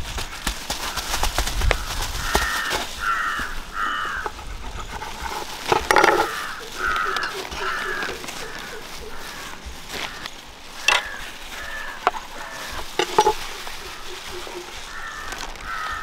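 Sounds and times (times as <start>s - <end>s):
crows cawing: 0.8s - 16.0s.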